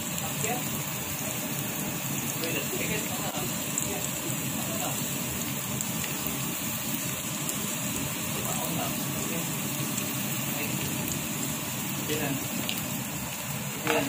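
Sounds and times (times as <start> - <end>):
onion frying in hot oil: 0.0 - 14.0.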